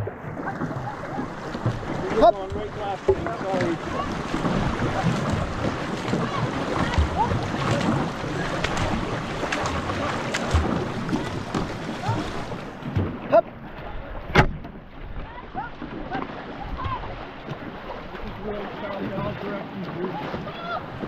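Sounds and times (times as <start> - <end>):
paddles splashing: 0.0 - 21.0
water rushing: 0.0 - 21.0.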